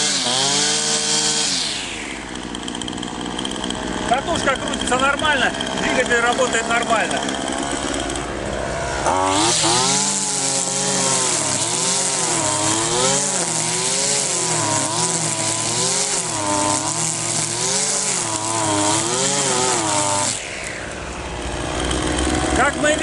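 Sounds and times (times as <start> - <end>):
string trimmer cutting grass: 0.0 - 23.0.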